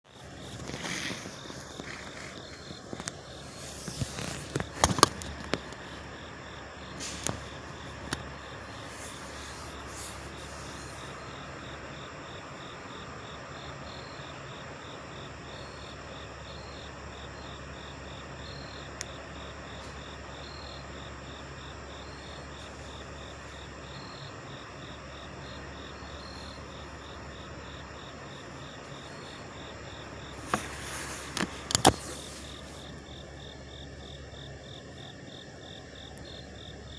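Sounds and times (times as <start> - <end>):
insects chirping: 0.1 - 36.9
trucks idling: 0.1 - 36.9.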